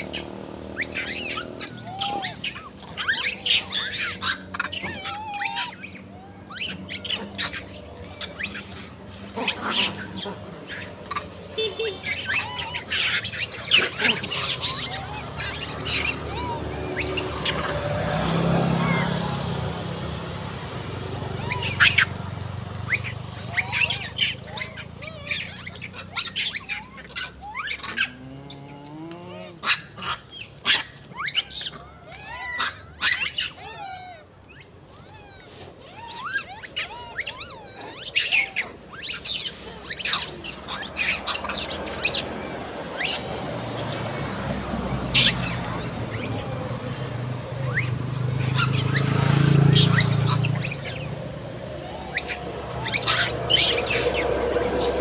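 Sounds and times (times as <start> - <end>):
monkeys squealing and chirping: 0.0 - 55.0.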